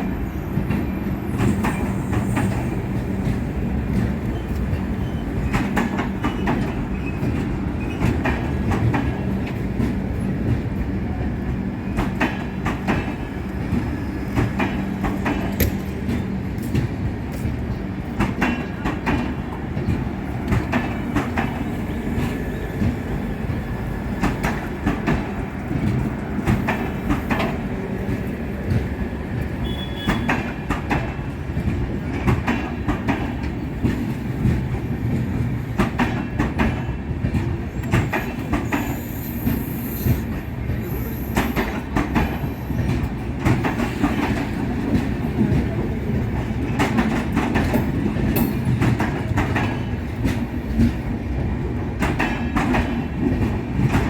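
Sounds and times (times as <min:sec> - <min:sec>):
train coaches rumbling: 0:00.0 - 0:54.0.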